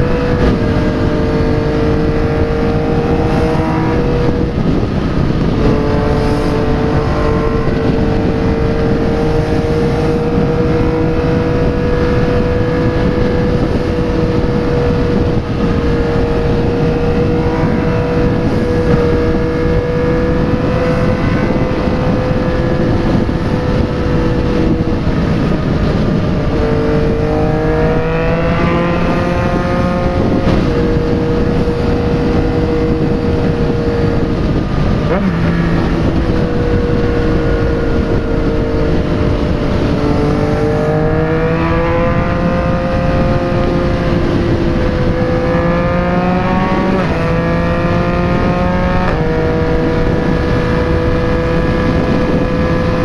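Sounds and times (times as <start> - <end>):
motorcycle engine cruising: 0.0 - 53.0
wind and road rush: 0.0 - 53.0.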